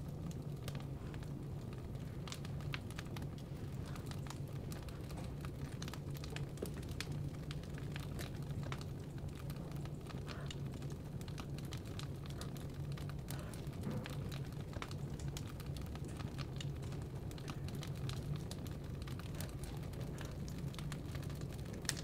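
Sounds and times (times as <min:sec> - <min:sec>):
firewood crackling and popping: 0:00.0 - 0:22.0.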